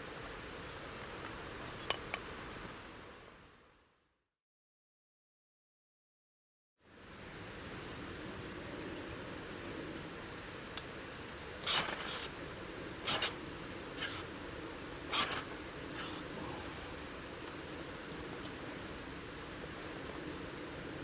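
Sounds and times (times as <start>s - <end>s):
steady background hiss: 0.0s - 4.1s, 6.8s - 21.0s.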